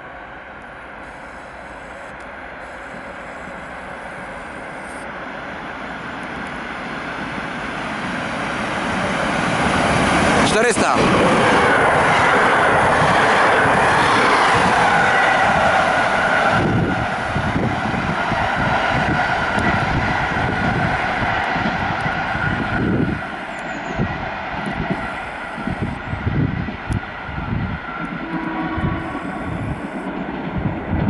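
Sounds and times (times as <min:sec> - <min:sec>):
train wheels rushing on rail: 0:00.0 - 0:31.0.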